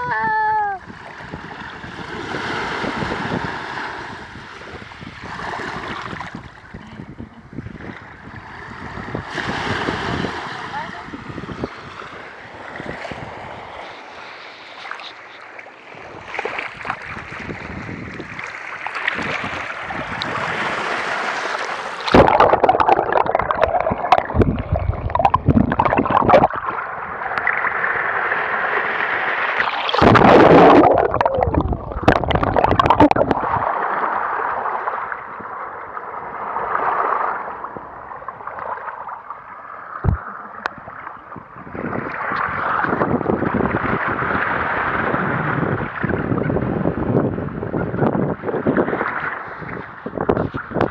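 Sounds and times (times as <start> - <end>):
sea surf lapping: 0.0 - 47.8.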